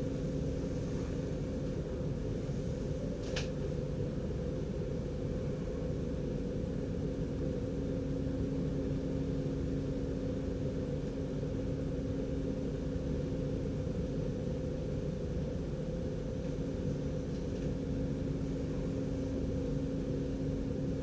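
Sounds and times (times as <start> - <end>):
electric train rumble: 0.0 - 21.0
steady hum: 0.0 - 21.0.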